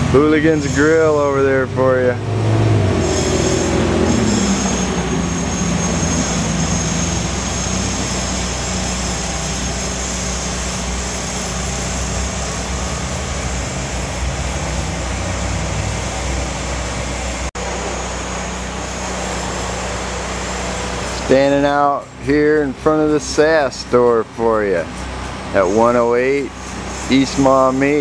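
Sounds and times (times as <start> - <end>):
low engine drone of traffic: 0.0 - 28.0.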